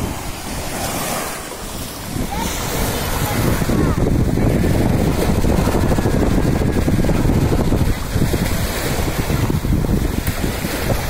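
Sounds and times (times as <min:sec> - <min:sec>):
small waves washing in: 0:00.0 - 0:11.0
wind buffeting microphone: 0:00.0 - 0:11.0.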